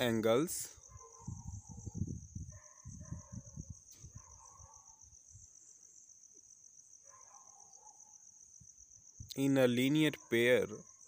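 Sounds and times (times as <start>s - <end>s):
cricket trill: 0.0s - 11.0s.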